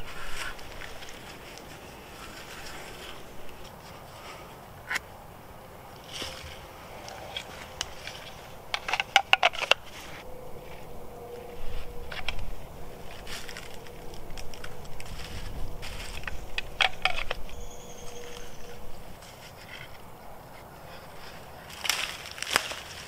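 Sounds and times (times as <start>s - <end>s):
twine rustling and crackling: 0.0s - 5.0s, 5.8s - 23.0s
leaves crunching underfoot: 0.0s - 5.1s, 5.8s - 23.0s.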